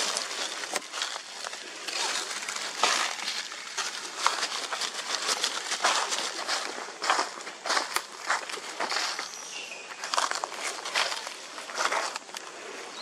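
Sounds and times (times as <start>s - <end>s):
footsteps crunching dry leaves: 0.0s - 13.0s.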